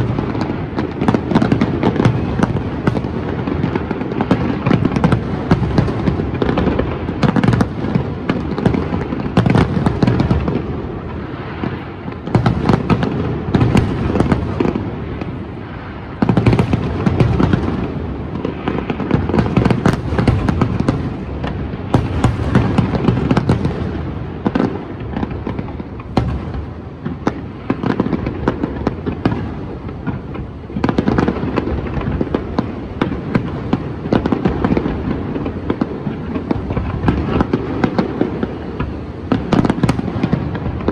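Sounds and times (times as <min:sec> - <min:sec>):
fireworks bursting and crackling: 0:00.0 - 0:40.9.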